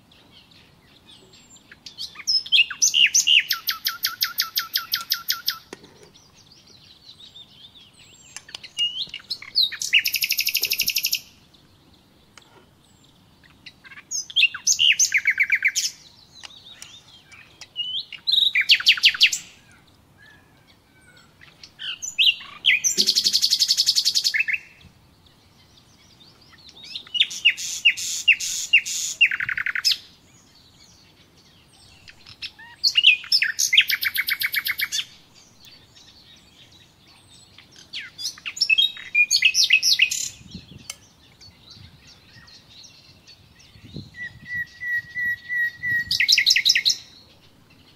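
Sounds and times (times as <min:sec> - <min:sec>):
songbird trilling: 0:00.2 - 0:47.9.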